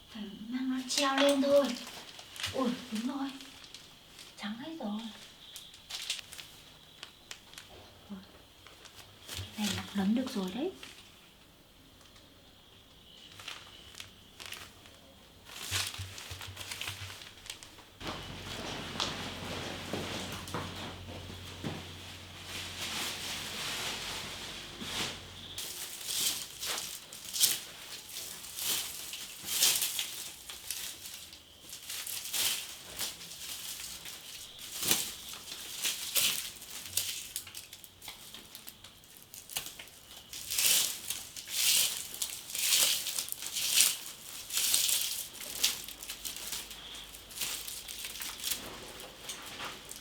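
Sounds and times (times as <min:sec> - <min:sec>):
plastic bags crinkling: 0:00.7 - 0:11.3, 0:13.0 - 0:50.0.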